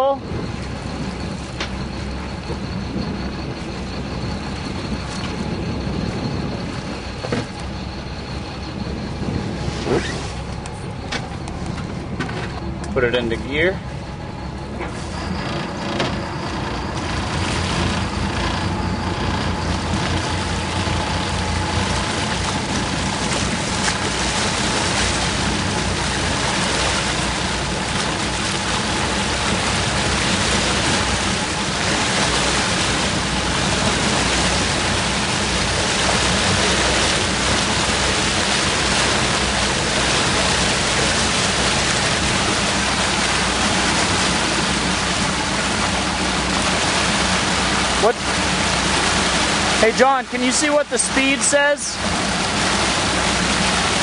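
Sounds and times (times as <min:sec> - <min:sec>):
boat engine: 0:00.0 - 0:54.0
water rushing: 0:00.0 - 0:54.0.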